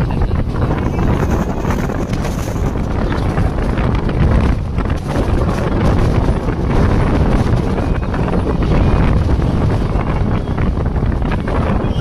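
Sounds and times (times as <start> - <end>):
train rumbling: 0.0 - 12.0
wind buffeting microphone: 0.0 - 12.0.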